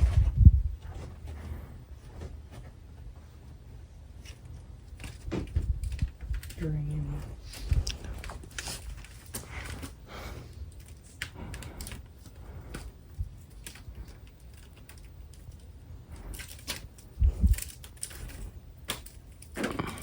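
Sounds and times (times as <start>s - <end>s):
ceiling fan rumble: 0.0s - 20.0s.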